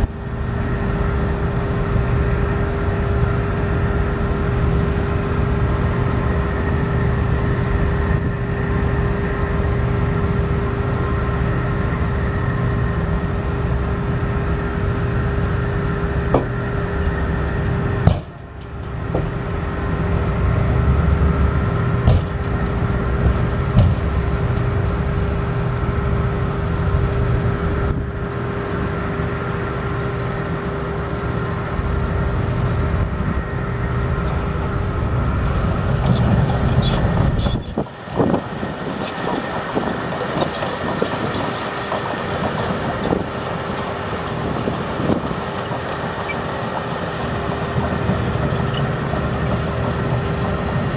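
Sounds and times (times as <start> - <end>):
heavy engine rumbling with whine: 0.0 - 50.9.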